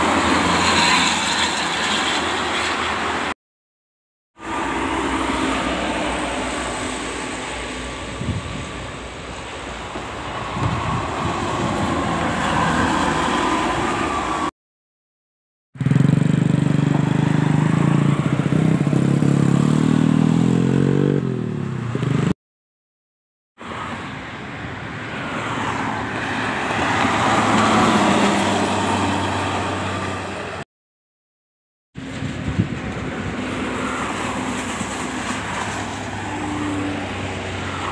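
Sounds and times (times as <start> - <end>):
buses passing on highway: 0.0 - 3.4, 4.4 - 14.6, 15.8 - 22.4, 23.6 - 30.7, 32.0 - 37.9.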